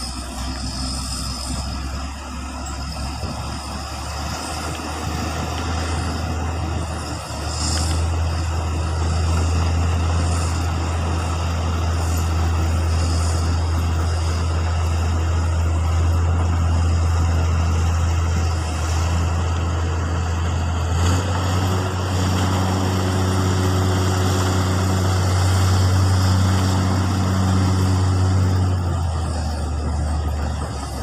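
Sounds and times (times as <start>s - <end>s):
heavy machine engine humming: 0.0s - 31.0s.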